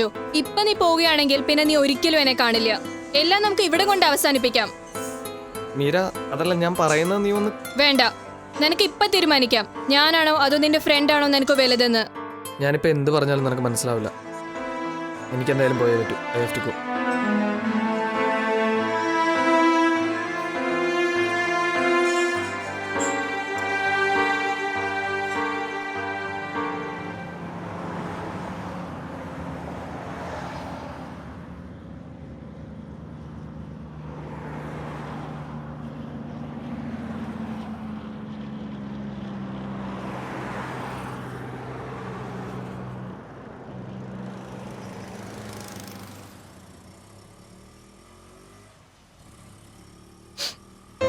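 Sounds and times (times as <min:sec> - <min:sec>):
vehicles passing: 0:00.0 - 0:51.0.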